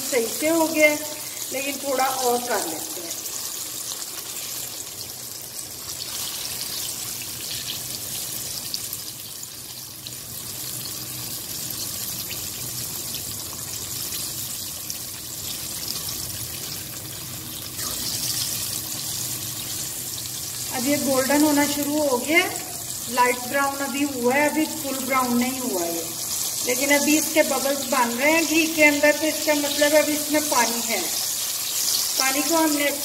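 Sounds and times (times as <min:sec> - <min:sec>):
chicken sizzling in hot fat: 0:00.0 - 0:33.0.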